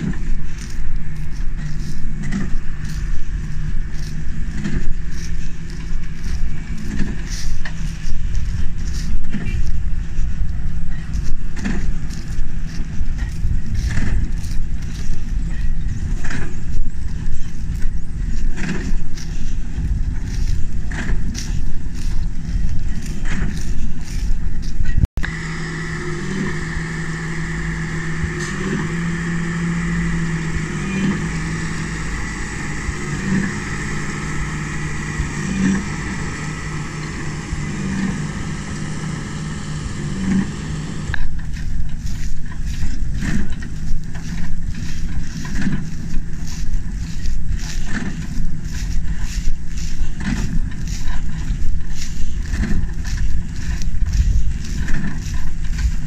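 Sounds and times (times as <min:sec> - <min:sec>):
baler and tractor working: 0:00.0 - 0:56.0.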